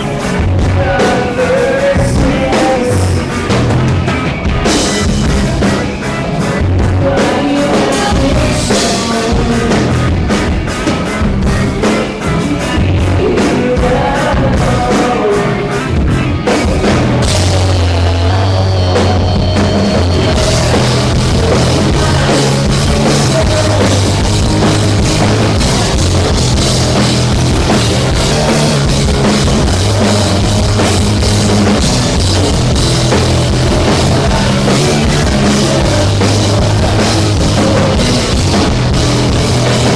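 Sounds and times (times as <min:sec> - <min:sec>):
drum kit beat: 0:00.0 - 0:39.9
rock band playing loud: 0:00.0 - 0:39.9.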